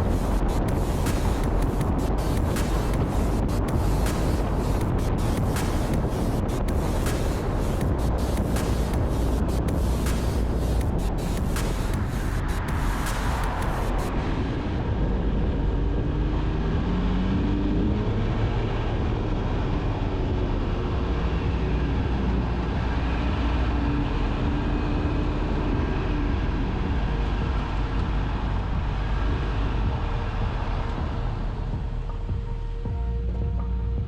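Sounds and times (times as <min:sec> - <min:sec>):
car engine revving up: 0:00.0 - 0:32.9
road and tyre noise: 0:00.0 - 0:34.0.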